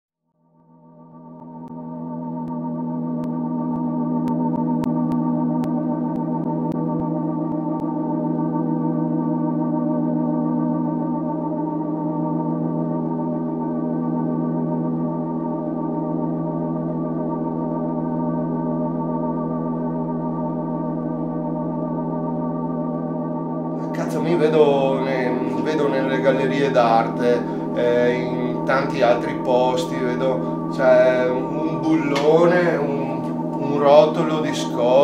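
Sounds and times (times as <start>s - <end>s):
organ-like chord held: 1.0s - 35.0s.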